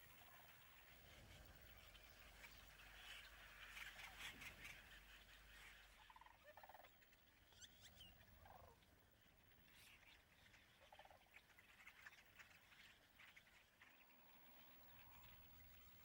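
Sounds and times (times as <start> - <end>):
faint rattling bird calls: 0.0 - 16.0.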